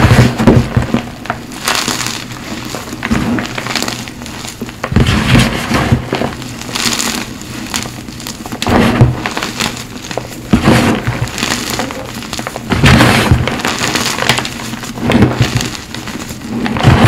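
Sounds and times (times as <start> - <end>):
hands crunching chalk lumps: 0.0 - 17.0.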